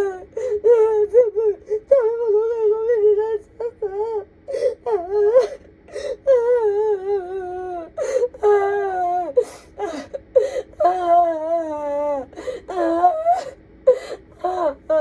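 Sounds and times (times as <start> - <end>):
woman sobbing and wailing: 0.0 - 15.0.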